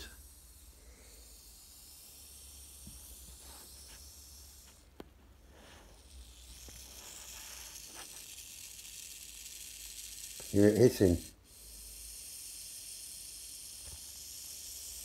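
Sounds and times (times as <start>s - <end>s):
snake hissing: 0.0s - 15.0s.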